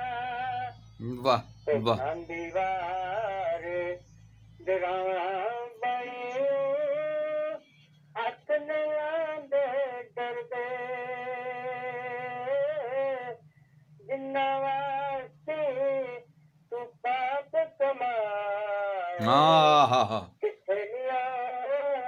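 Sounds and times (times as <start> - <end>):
man singing over a phone: 0.0 - 22.0
steady low hum: 0.0 - 22.0.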